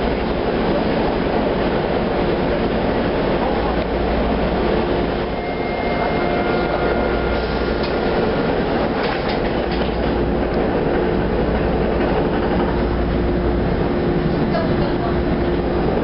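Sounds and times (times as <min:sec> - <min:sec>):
subway car hum: 0:00.0 - 0:16.0
subway doors sliding shut: 0:00.0 - 0:16.0.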